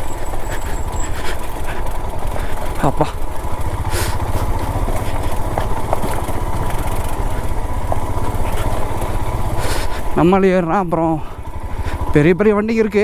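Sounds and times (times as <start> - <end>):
motorcycle engine thumping: 0.0 - 12.2.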